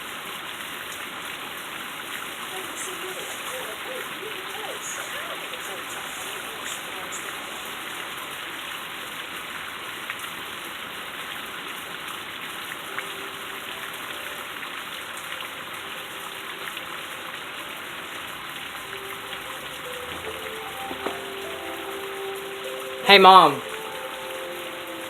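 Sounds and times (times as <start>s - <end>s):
heavy rain hissing: 0.0s - 25.0s
raindrops ticking: 2.1s - 25.0s.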